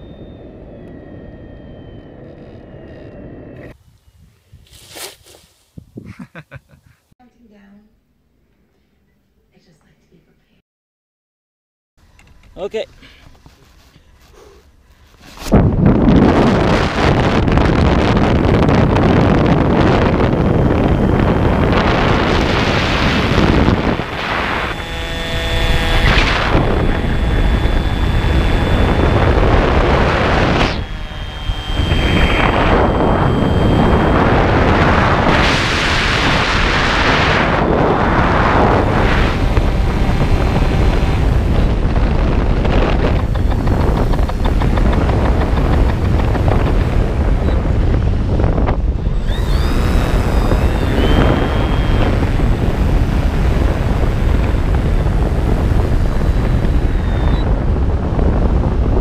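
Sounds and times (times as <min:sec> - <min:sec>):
electric motor and propeller whine: 0:00.0 - 0:03.8, 0:14.4 - 0:59.0
wind noise on microphone: 0:00.0 - 0:07.1, 0:15.1 - 0:59.0.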